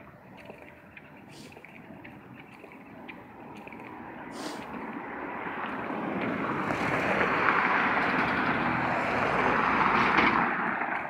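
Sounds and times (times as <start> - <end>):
vehicle passing by: 0.8 - 11.0.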